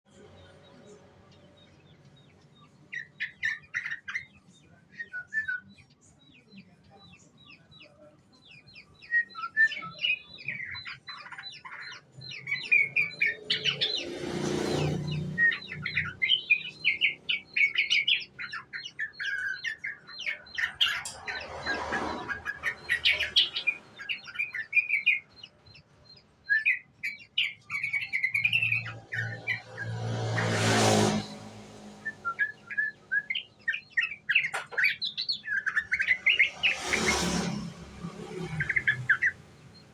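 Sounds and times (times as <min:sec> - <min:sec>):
bulbul chirping song: 0:00.1 - 0:39.9.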